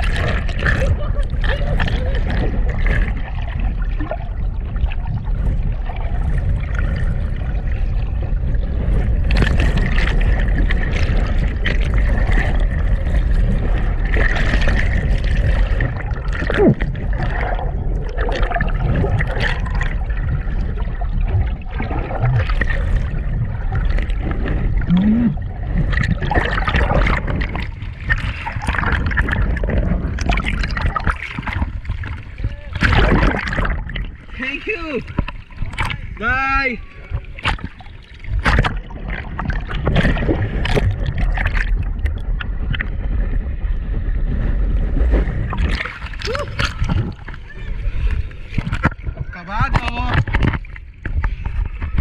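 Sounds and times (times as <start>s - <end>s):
seawater sloshing and splashing: 0.0s - 52.0s
steady low rumble: 0.0s - 52.0s.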